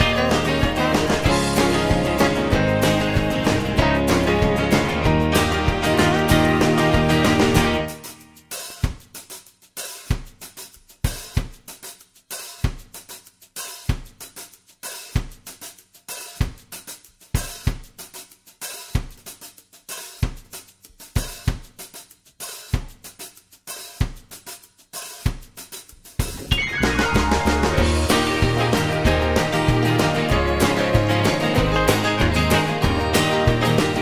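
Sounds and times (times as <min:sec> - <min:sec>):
drum kit playing a steady beat: 0:00.0 - 0:34.0.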